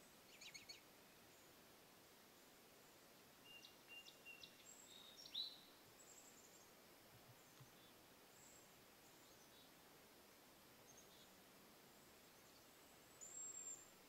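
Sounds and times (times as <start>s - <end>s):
faint bird chirps: 0.0s - 1.6s, 2.4s - 9.8s, 10.8s - 14.0s.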